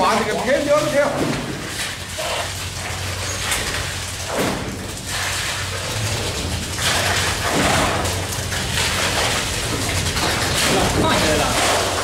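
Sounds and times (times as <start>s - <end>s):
clattering and knocks: 0.0s - 12.0s
engine running: 1.2s - 12.0s.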